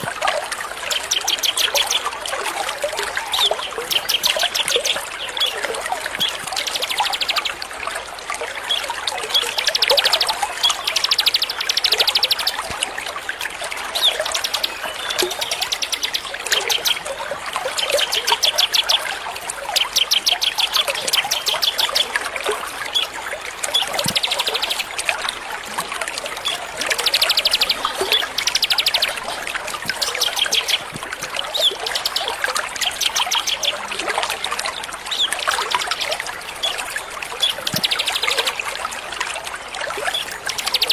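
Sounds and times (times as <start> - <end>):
trickle of running water: 0.0 - 40.9
songbirds chirping and trilling: 0.6 - 7.8, 8.4 - 40.9.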